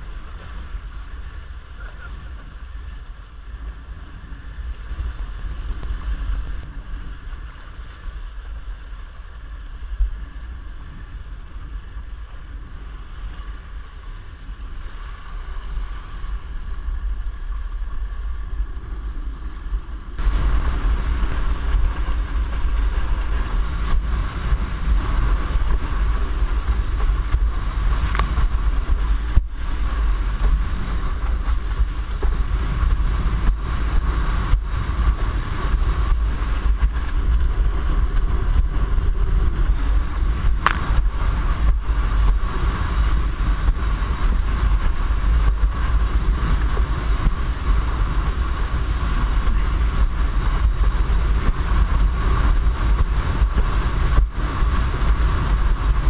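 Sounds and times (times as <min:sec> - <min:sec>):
water rushing under board: 0:00.0 - 0:56.0
wind buffeting microphone: 0:00.0 - 0:56.0.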